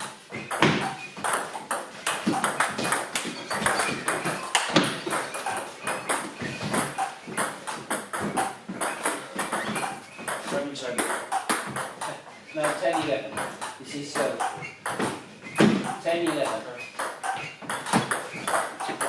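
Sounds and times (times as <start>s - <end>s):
squash ball smacks: 0.4s - 19.0s.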